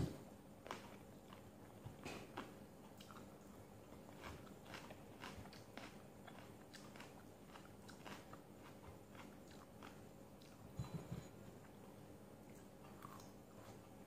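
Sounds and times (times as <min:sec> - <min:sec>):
person chewing vegetables: 0:00.6 - 0:14.0.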